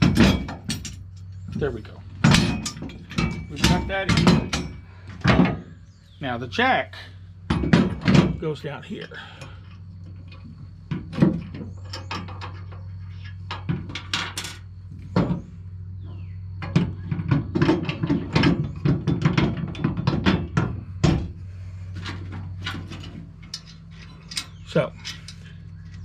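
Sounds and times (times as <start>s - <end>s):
steel parts clanking and knocking: 0.0s - 5.8s, 7.4s - 26.0s
steady low hum: 0.0s - 26.0s.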